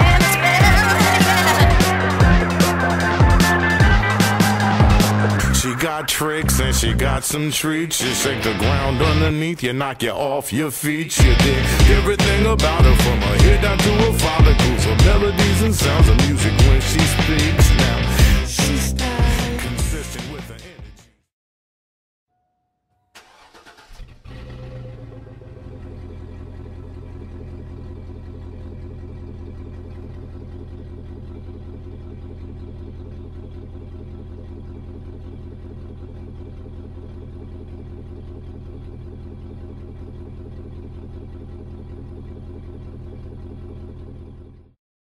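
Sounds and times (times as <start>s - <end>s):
car engine starting and idling: 0.0s - 20.6s, 23.2s - 44.8s.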